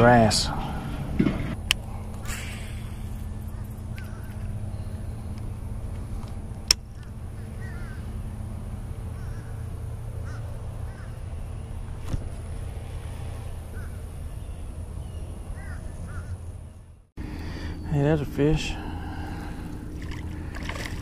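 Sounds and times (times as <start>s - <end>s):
birds calling: 0.0s - 21.0s
low rumble: 0.0s - 21.0s.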